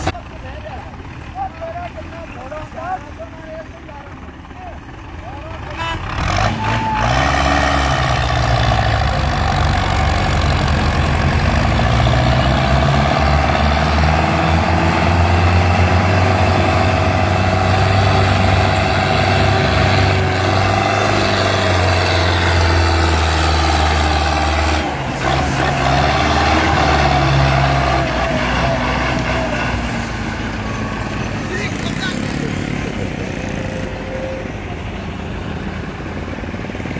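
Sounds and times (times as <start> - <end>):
tractor engine revving: 0.0 - 36.9.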